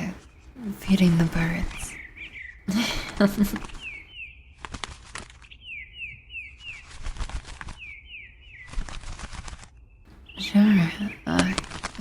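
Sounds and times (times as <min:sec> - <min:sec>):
small songbird chirping: 0:00.0 - 0:11.7.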